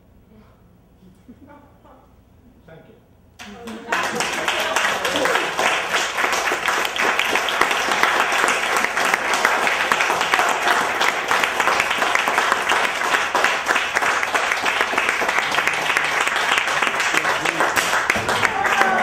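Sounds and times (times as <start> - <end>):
audience applauding: 3.4 - 19.0.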